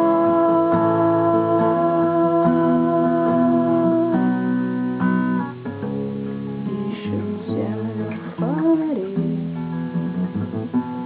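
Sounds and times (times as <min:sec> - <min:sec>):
guitar playing held chords: 0:00.0 - 0:11.0.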